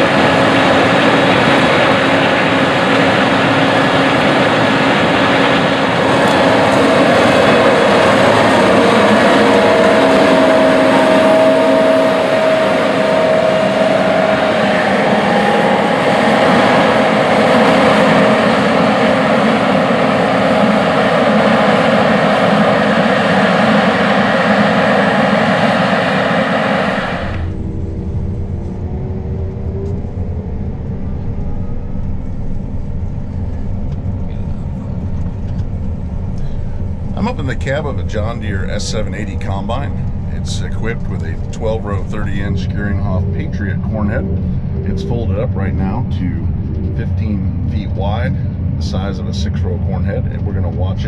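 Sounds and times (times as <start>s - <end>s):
combine harvester engine and machinery: 0.0s - 51.0s
machinery whine: 0.0s - 51.0s.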